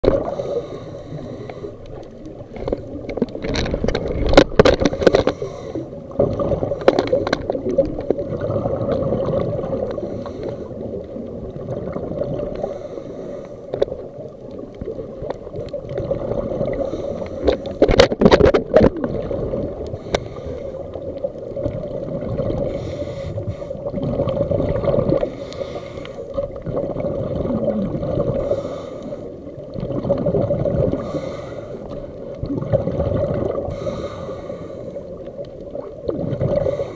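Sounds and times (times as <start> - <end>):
muffled underwater rumble: 0.0 - 36.9.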